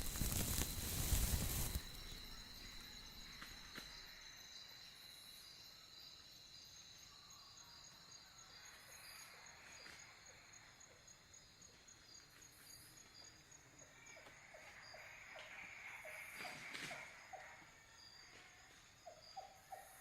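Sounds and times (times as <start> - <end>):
high insect trill: 0.0 - 20.0
pulsing cricket chirp: 0.0 - 20.0.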